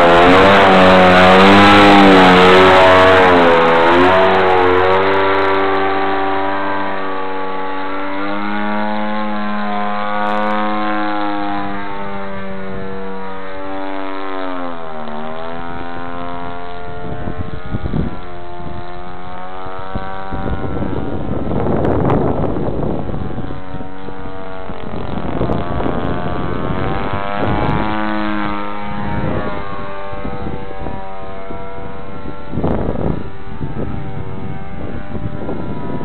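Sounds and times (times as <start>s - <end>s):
model airplane motor and propeller: 0.0s - 36.0s.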